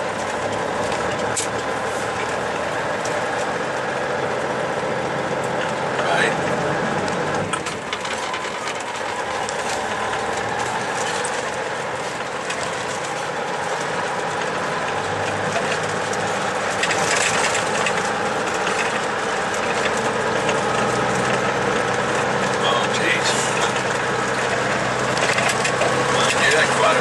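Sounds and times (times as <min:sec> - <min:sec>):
rattling and clatter: 0:00.0 - 0:27.0
truck engine drone: 0:00.0 - 0:27.0.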